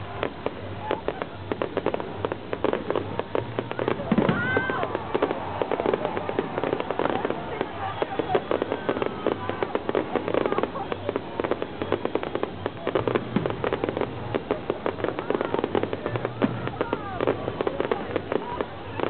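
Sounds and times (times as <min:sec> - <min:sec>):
crowd voices: 0:00.0 - 0:19.0
fireworks popping and banging: 0:00.0 - 0:19.0.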